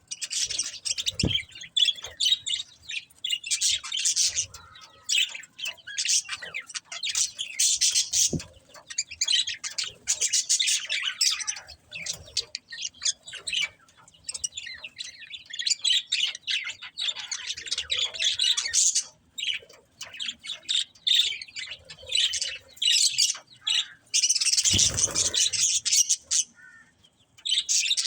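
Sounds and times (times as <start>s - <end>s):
budgerigars chirping and chattering: 0.0s - 28.0s.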